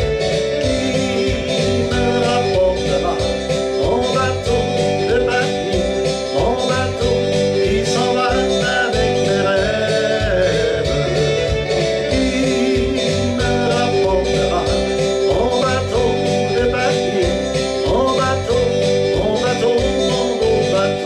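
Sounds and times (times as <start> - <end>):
country music with guitar: 0.0 - 21.0
man singing: 0.2 - 21.0.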